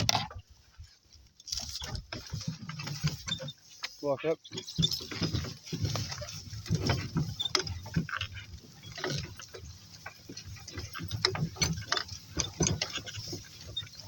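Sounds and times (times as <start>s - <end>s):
crunching and rustling grass: 0.0s - 14.0s.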